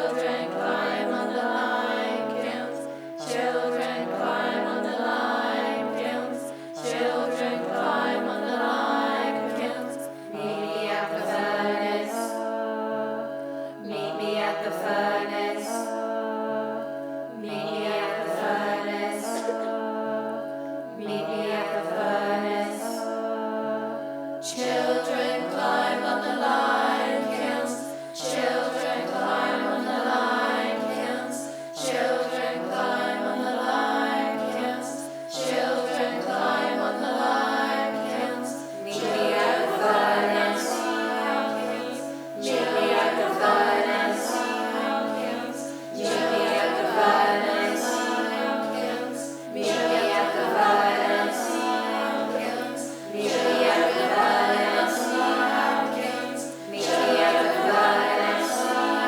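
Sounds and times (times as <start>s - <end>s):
a cappella choir singing: 0.0s - 59.0s.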